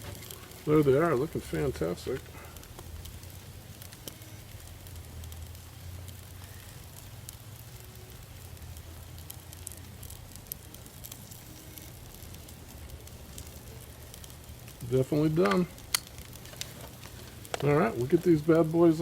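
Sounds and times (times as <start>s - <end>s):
chicken wings sizzling on grill: 0.0s - 19.0s
crackles and pops: 0.0s - 19.0s.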